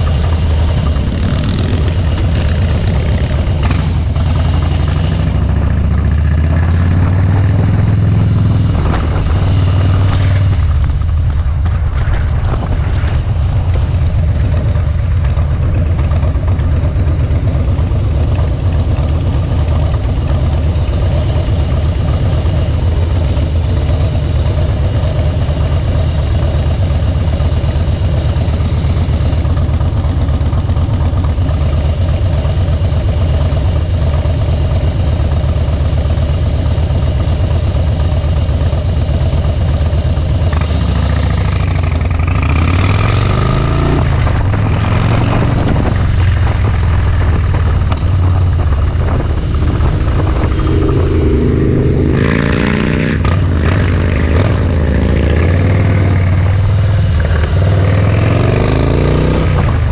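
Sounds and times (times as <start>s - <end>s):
motorcycle engine revving: 0.0s - 59.9s
motorcycle engine running: 0.0s - 59.9s.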